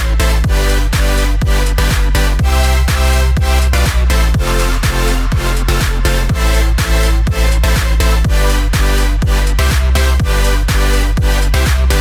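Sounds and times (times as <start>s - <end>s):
electronic dance music: 0.0s - 12.0s
kick drum: 0.0s - 12.0s.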